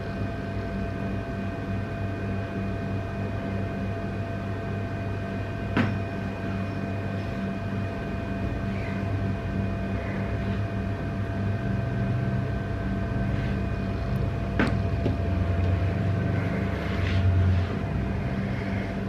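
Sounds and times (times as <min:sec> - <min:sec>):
low machine hum with tones: 0:00.0 - 0:19.0.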